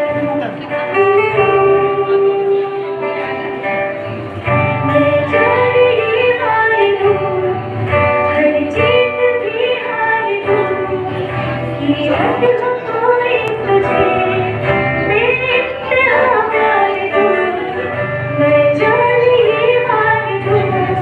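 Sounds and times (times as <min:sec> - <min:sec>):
instrumental accompaniment: 0:00.0 - 0:21.0
woman singing into microphone: 0:00.0 - 0:21.0.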